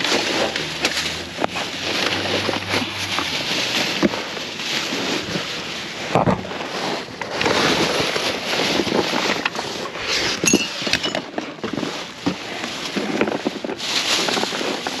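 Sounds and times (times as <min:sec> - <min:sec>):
plastic bags and boxes rustling: 0:00.0 - 0:15.0.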